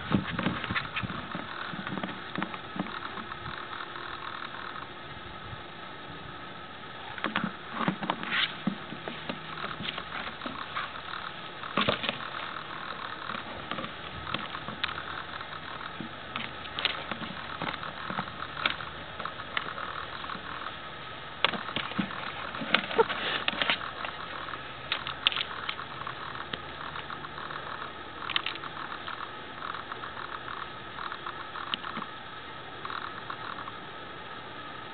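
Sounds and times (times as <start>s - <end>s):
steady hiss: 0.0s - 34.9s.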